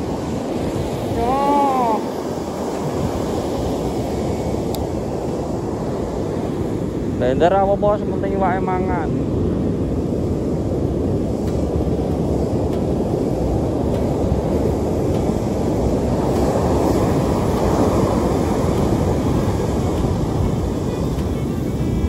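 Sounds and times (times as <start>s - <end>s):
heavy surf breaking on beach: 0.0s - 22.0s
wind buffeting microphone: 0.0s - 22.0s.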